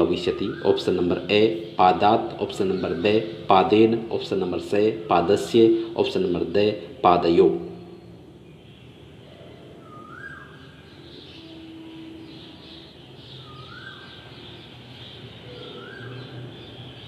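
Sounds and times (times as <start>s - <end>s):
faint high chirping chatter: 0.0s - 17.0s.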